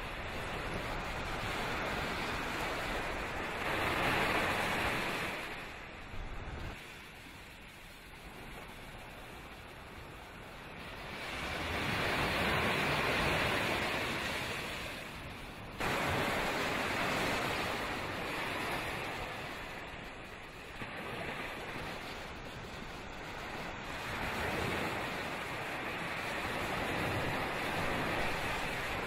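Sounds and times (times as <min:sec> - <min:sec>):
ocean surf on sandy beach: 0:00.0 - 0:29.0.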